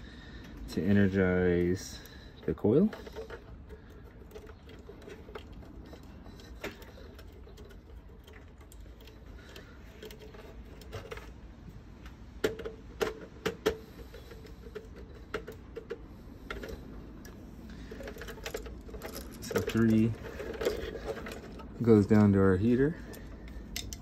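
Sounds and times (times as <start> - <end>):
light handling noises: 0.0 - 24.0.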